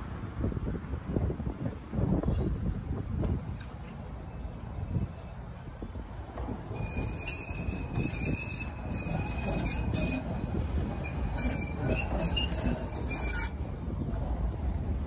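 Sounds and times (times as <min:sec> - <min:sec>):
tram rolling rumble: 0:00.0 - 0:15.0
tram wheels squealing: 0:02.2 - 0:15.0.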